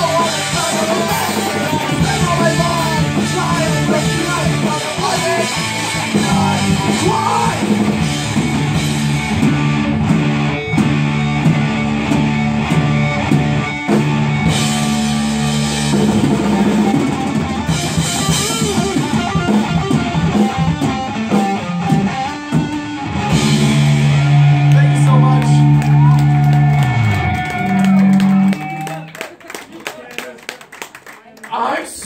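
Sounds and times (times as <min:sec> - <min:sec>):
distorted electric guitar: 0:00.0 - 0:28.8
drum kit: 0:00.0 - 0:28.8.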